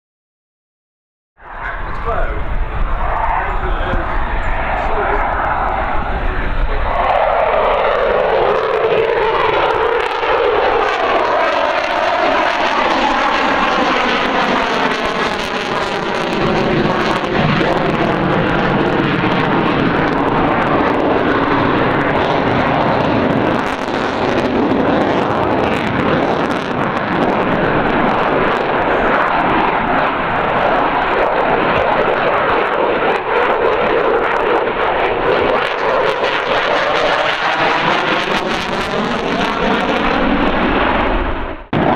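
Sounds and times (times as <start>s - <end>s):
jet flying past with whoosh: 1.4s - 41.9s.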